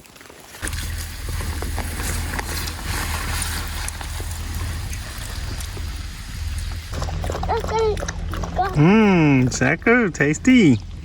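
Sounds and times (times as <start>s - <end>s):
rain hiss: 0.0s - 11.0s
light rain ticks: 1.6s - 11.0s.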